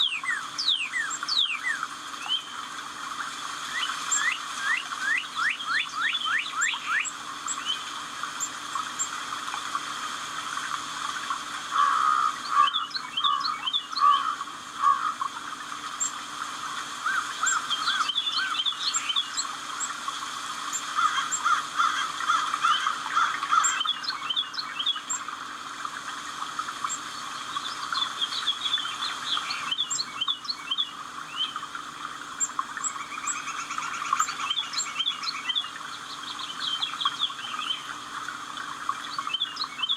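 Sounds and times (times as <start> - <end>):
songbirds chirping and singing: 0.0 - 2.6, 3.7 - 9.1, 11.7 - 16.2, 17.1 - 20.0, 20.7 - 25.3, 26.0 - 38.1, 38.8 - 39.9.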